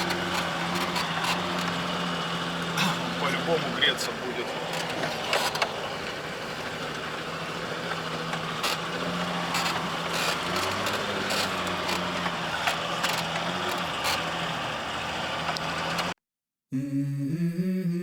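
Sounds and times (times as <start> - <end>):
sharp knocks and rattles: 0.0 - 16.1
vehicle engine running under load: 0.0 - 16.2.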